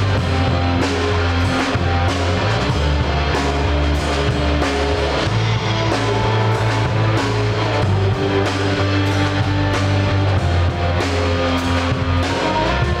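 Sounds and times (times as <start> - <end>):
bass guitar: 0.0 - 13.0
drum kit beat: 0.0 - 13.0
guitar: 0.0 - 13.0.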